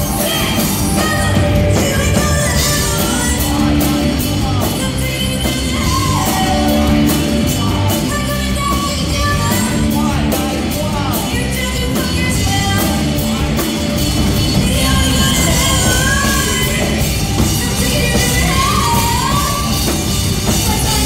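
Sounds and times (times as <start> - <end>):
rock band playing: 0.0 - 21.0
woman singing: 0.0 - 21.0.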